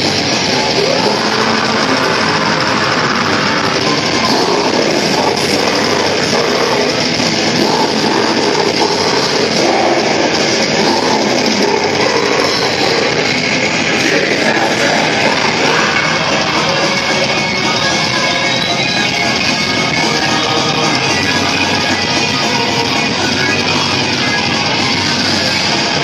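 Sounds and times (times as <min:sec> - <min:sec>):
death metal band playing live: 0:00.0 - 0:26.0.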